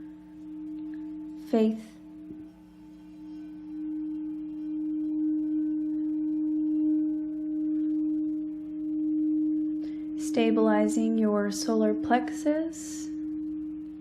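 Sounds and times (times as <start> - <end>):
meditation drone music: 0.0 - 14.0.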